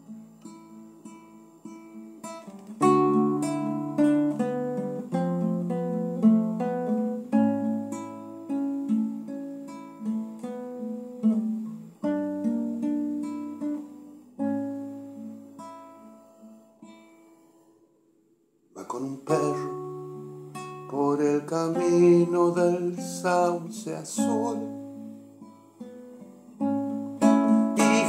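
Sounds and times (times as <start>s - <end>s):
fingerpicked acoustic guitar chords: 0.0s - 28.0s.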